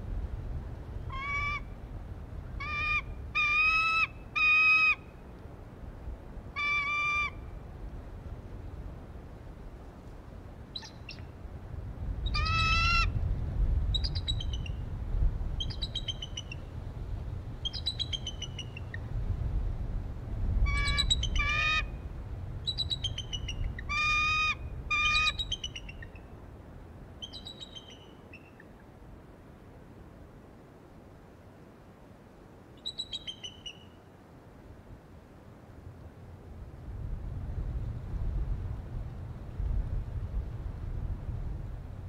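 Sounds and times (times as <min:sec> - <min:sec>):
wind rumble on microphone: 0:00.0 - 0:31.2, 0:34.6 - 0:42.0.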